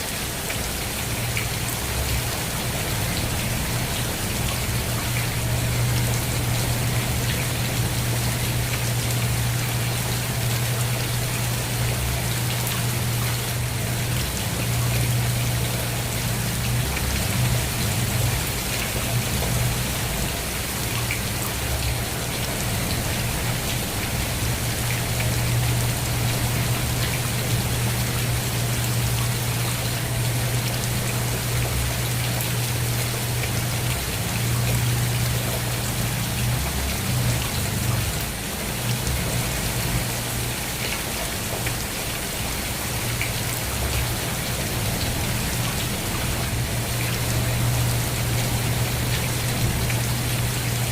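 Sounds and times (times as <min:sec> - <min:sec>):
rain pattering on a surface: 0:00.0 - 0:50.9.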